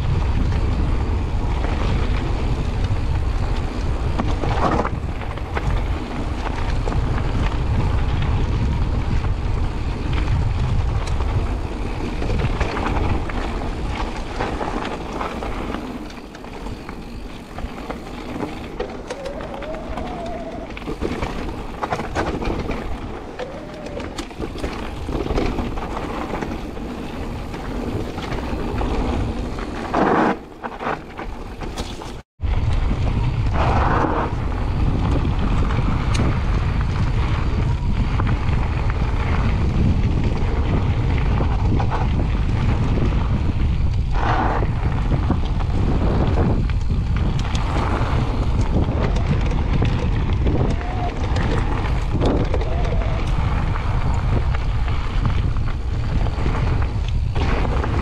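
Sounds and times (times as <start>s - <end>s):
wind on microphone: 0.0s - 30.9s, 31.5s - 58.0s
bike rattling: 0.0s - 58.0s
bike tyres rolling over gravel: 0.0s - 58.0s.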